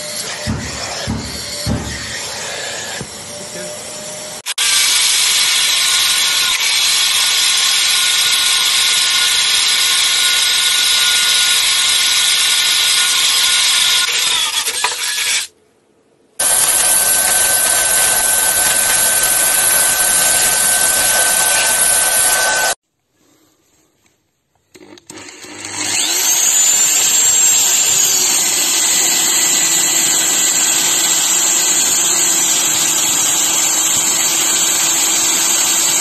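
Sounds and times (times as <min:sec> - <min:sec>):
electric drill boring into wood: 0:00.0 - 0:14.1, 0:16.4 - 0:22.8, 0:24.8 - 0:36.0.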